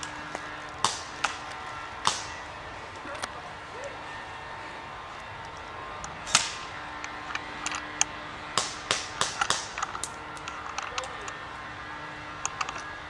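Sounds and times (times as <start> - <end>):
airsoft guns firing: 0.0 - 13.0.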